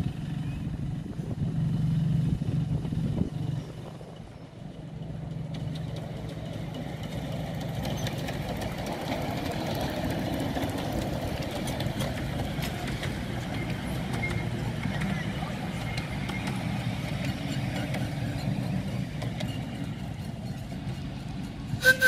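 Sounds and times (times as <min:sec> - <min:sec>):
miniature steam locomotive running: 0:03.9 - 0:22.0.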